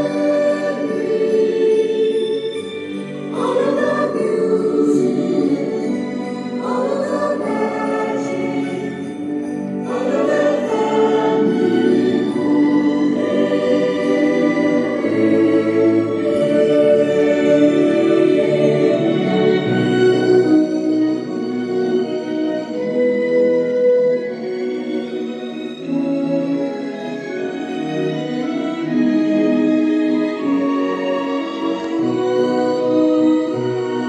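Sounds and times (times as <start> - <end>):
choir singing slow chords: 0.0 - 34.0.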